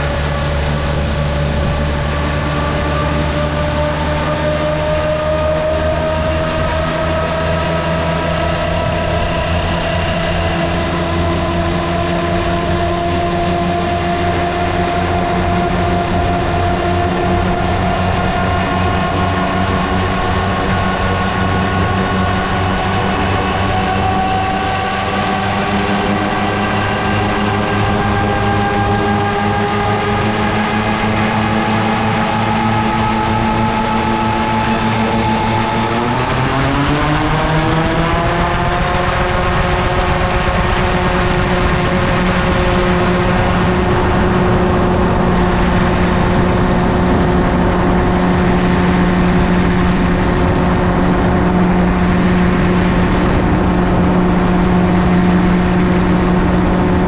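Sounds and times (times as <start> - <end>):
gyroplane engine and propeller: 0.0 - 57.0.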